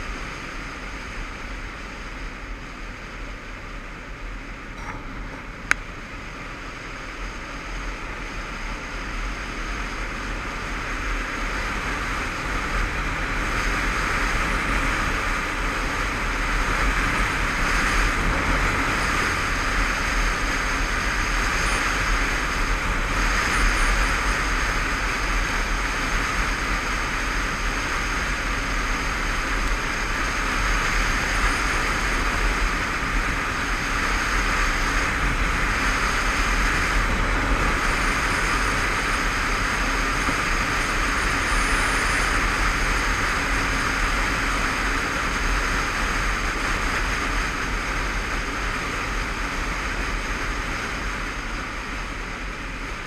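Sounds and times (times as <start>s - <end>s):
motorcycle engine and road rumble: 0.0s - 53.0s
wind rushing over microphone: 0.0s - 53.0s.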